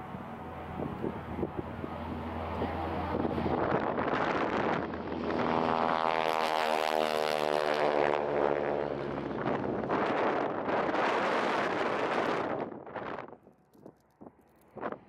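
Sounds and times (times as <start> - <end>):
propeller plane passing: 0.0 - 15.0.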